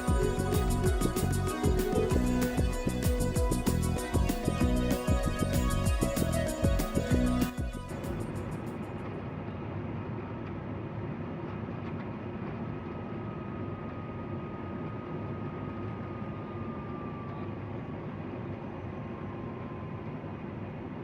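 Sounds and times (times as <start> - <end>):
faint falling whine: 0.0 - 21.0
jet cockpit airflow rumble: 0.0 - 21.0.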